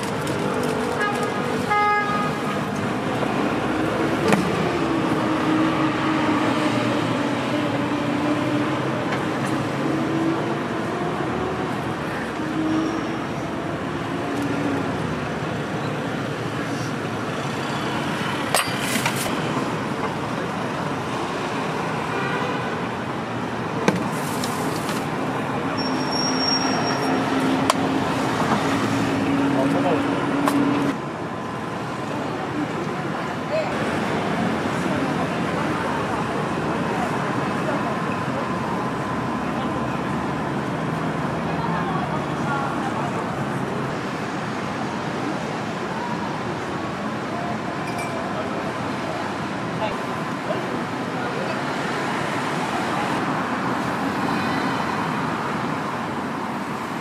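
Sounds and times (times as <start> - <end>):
street traffic hum: 0.0 - 57.0.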